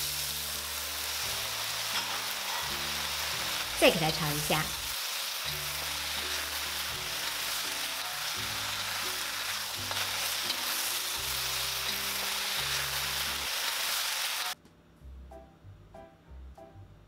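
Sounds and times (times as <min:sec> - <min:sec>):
food sizzling in a wok: 0:00.0 - 0:14.6
soft background music: 0:00.0 - 0:17.0.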